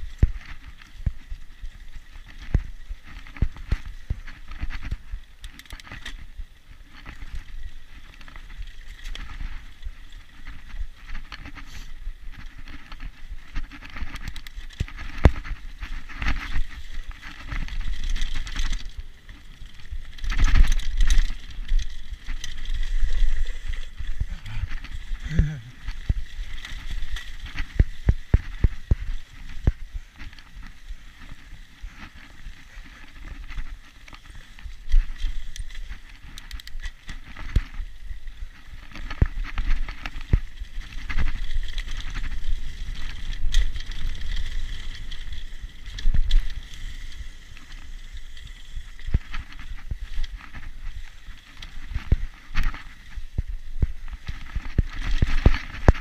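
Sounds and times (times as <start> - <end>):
bicycle rattling over dirt trail: 0.0 - 56.0.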